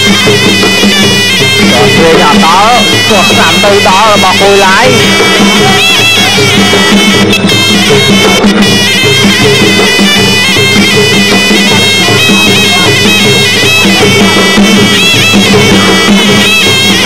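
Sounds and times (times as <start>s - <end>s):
drums: 0.0s - 17.0s
reed oboe melody: 0.0s - 17.0s.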